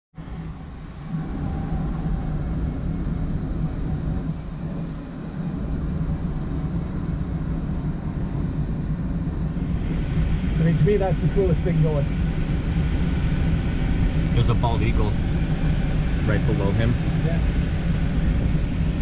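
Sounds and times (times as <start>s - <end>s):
airflow rumble in cockpit: 0.1s - 19.0s
constant low hum: 0.1s - 19.0s.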